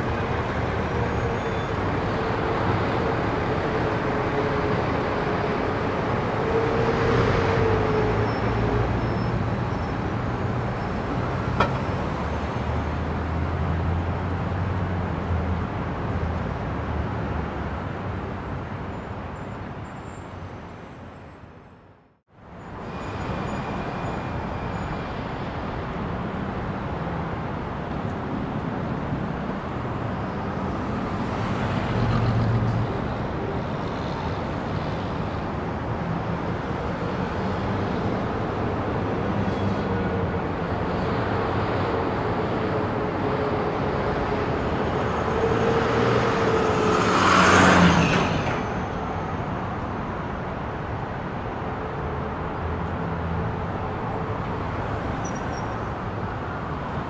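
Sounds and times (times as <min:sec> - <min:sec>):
passing cars: 0:00.0 - 0:57.0.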